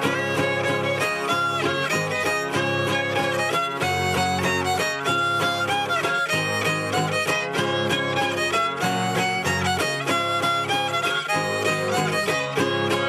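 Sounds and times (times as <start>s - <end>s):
guitar accompaniment: 0.0s - 13.0s
violin playing lively folk tune: 0.0s - 13.0s.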